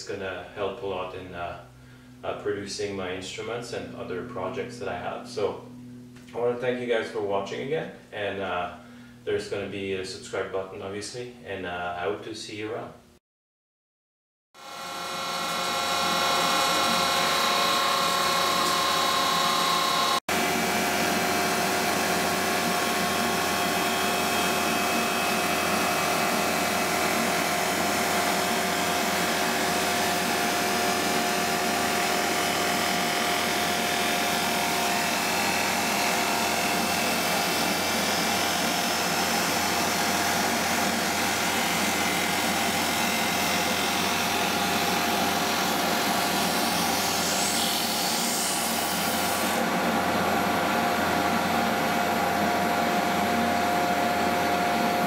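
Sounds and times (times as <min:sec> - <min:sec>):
drum sander whining: 0:03.3 - 0:07.0, 0:14.6 - 0:55.0.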